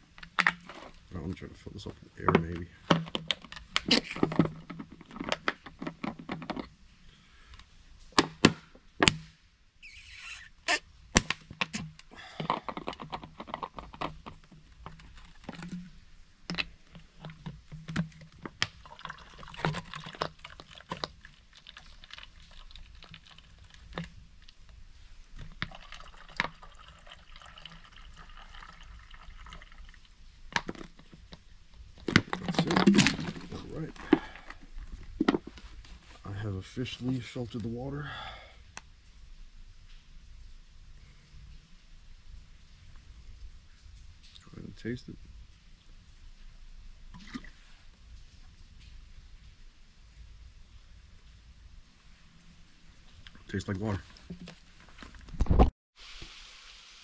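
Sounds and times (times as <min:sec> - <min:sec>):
water pouring and dripping: 0:00.0 - 0:09.2, 0:09.8 - 0:55.4, 0:56.0 - 0:57.0.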